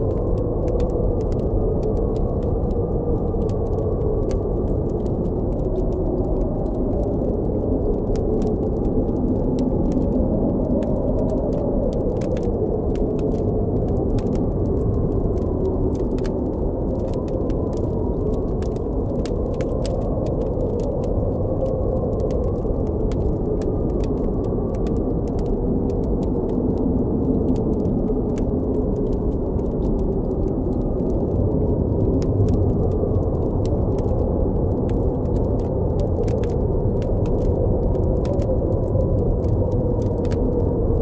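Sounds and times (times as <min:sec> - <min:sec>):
campfire crackling: 0:00.0 - 0:41.0
low blizzard wind: 0:00.0 - 0:41.0.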